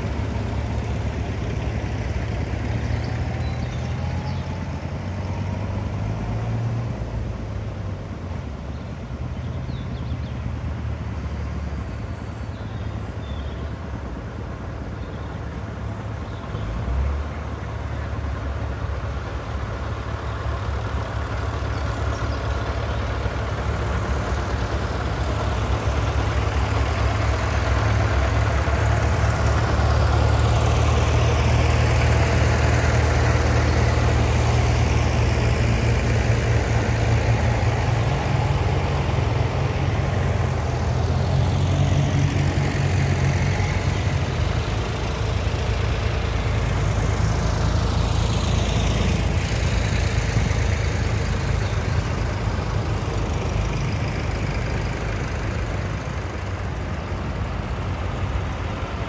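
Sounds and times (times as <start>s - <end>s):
tractor engines passing: 0.0s - 59.0s.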